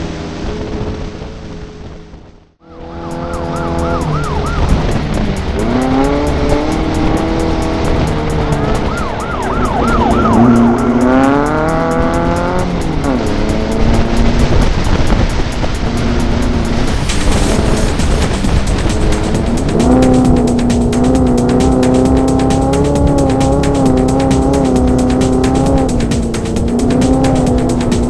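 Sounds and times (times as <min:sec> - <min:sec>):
race car engine revving: 0:02.6 - 0:28.0.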